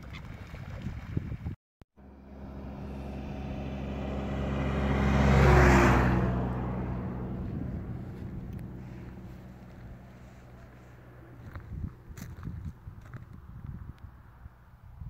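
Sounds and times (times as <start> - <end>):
vehicle passing by: 2.0 - 14.8.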